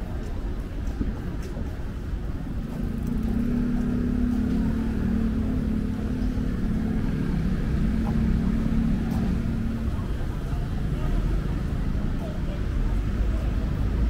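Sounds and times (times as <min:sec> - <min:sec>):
street traffic rumble: 0:00.0 - 0:14.0
vehicle engine humming: 0:00.0 - 0:14.0.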